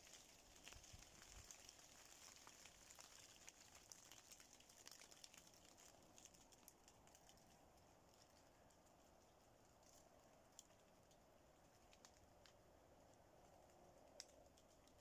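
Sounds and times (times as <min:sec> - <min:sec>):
raindrops ticking on leaves: 0:00.0 - 0:15.0.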